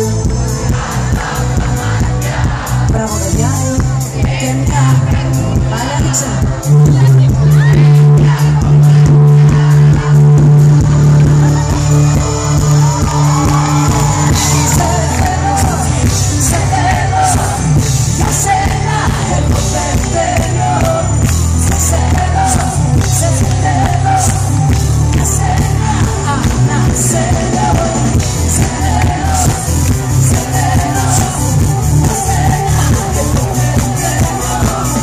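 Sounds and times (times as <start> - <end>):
live pop-rock band: 0.0 - 35.0
woman singing into microphone: 2.1 - 10.6, 11.2 - 35.0.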